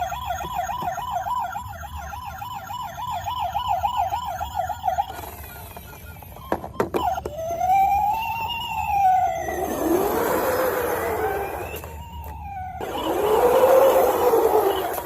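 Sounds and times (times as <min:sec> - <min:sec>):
toy electronic siren warbling: 0:00.0 - 0:15.0.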